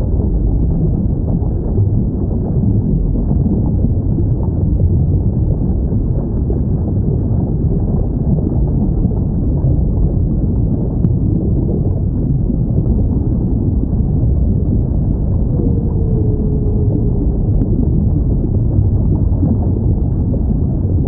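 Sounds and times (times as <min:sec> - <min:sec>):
low underwater rumble: 0:00.0 - 0:21.0.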